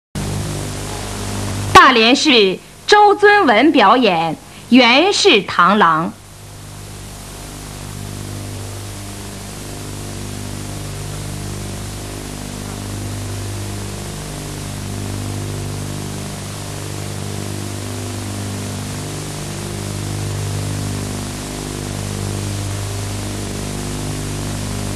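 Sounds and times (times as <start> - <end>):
videotape hiss: 0.2 - 24.9.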